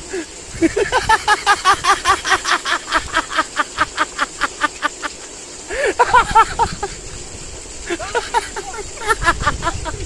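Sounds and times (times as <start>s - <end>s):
person laughing: 0.1s - 7.2s, 7.8s - 10.0s.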